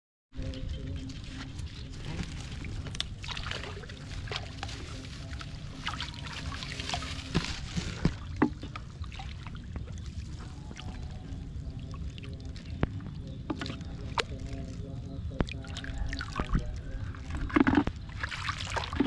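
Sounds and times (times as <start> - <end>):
steady low rumble: 0.4 - 18.3
splashing in shallow muddy water: 0.4 - 19.0.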